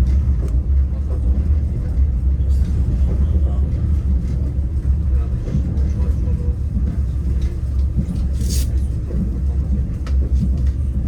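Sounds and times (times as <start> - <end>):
train carriage rumbling on rails: 0.0 - 11.0.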